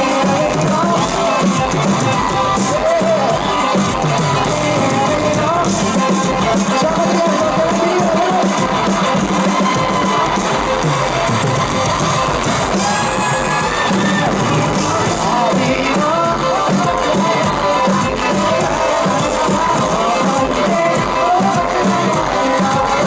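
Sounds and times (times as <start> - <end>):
man singing into microphone: 0.0 - 10.8, 12.7 - 23.0
bass guitar: 0.0 - 23.0
crowd noise: 0.0 - 23.0
electric guitar: 0.0 - 23.0.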